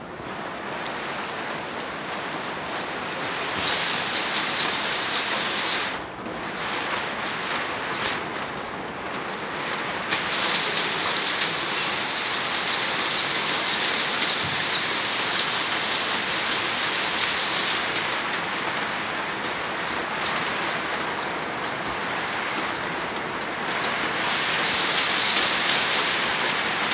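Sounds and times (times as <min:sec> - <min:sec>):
heavy rain pouring onto water: 0:00.0 - 0:26.9.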